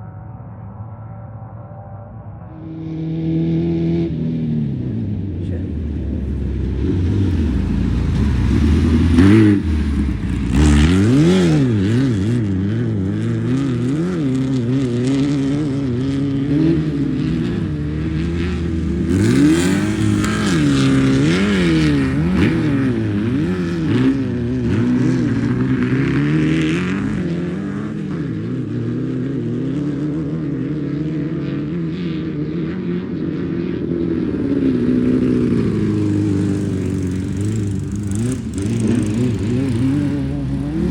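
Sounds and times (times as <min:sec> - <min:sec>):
race vehicle engines revving: 0:02.6 - 0:40.9.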